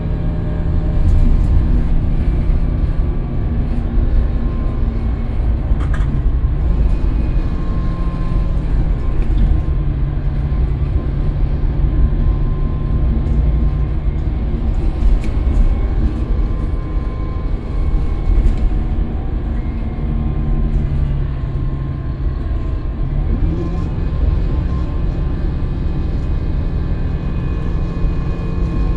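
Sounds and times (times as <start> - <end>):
bus engine droning: 0.0 - 28.9.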